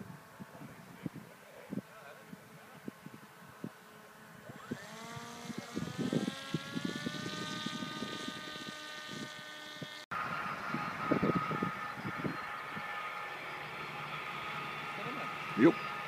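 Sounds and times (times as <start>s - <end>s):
wind buffeting microphone: 0.0s - 13.2s
drone propeller whine: 2.0s - 16.0s.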